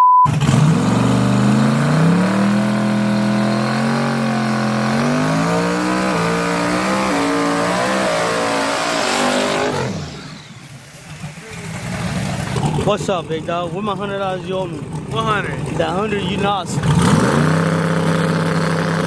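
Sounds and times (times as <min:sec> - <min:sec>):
truck engine accelerating through gears: 0:00.1 - 0:19.0.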